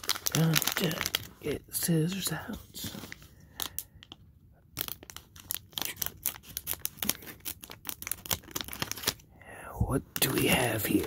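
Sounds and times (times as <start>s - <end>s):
plastic crinkling: 0.0s - 9.3s.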